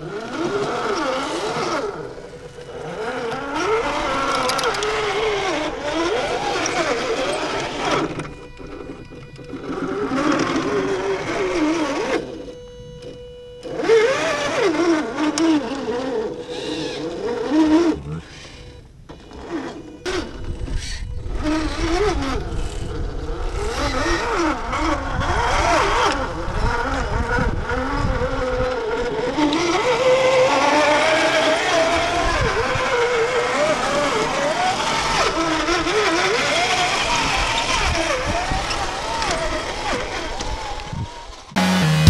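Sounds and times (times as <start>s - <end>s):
toy car motor and gears whining: 0.0s - 41.5s.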